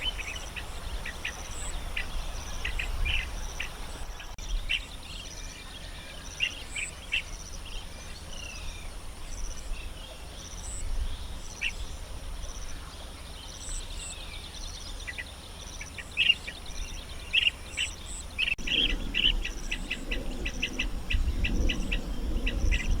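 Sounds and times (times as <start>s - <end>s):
birds chirping: 0.0s - 23.0s
high insect drone: 0.0s - 23.0s
pulsed insect calls: 0.0s - 23.0s.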